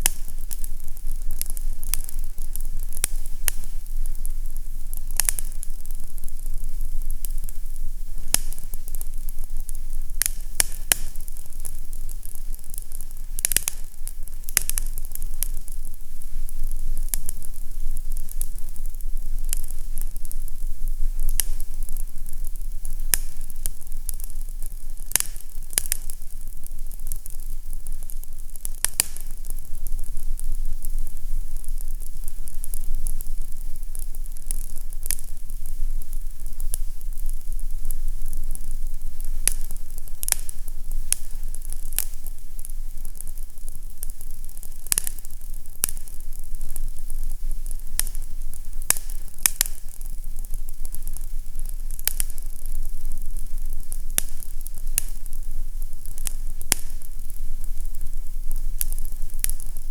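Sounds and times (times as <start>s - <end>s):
fireplace fire crackling: 0.0s - 59.9s
low steady hum: 0.0s - 59.9s.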